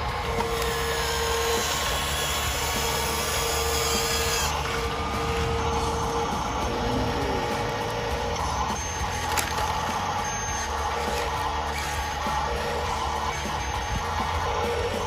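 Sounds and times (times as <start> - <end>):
high whine: 0.0 - 15.0
small electric motors whining: 0.0 - 15.0
steady motor tone: 0.0 - 15.0.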